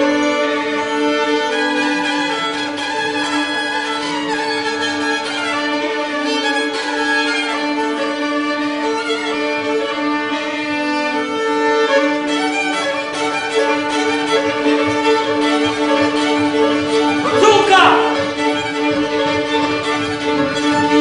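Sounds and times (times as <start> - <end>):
fiddles playing folk dance tune: 0.0 - 21.0.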